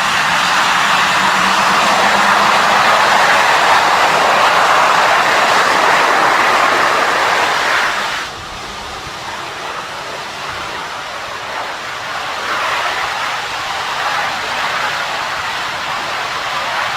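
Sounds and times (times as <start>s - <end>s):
aircraft engines running: 0.0s - 16.9s.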